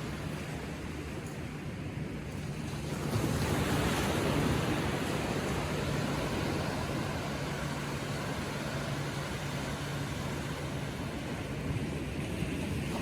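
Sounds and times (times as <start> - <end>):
ocean wave breaking: 0.0 - 1.3, 2.2 - 13.0.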